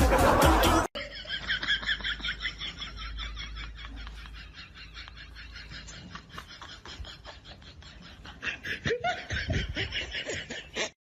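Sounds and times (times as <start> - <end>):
person laughing: 0.0 - 11.0.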